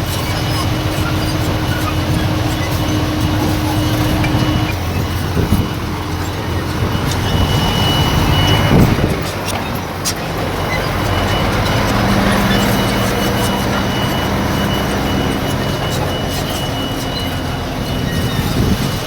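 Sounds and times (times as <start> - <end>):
heavy machinery diesel engine running: 0.0 - 19.0.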